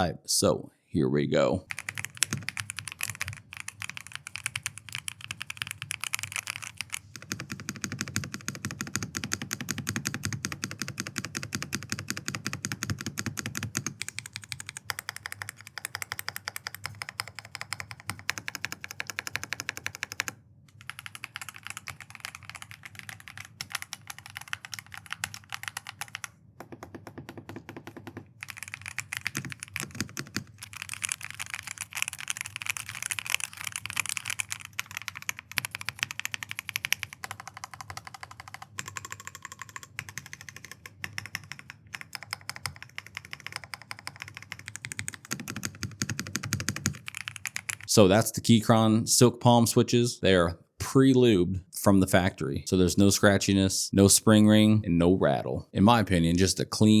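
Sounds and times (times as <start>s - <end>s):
mechanical keyboard typing: 1.7s - 47.9s.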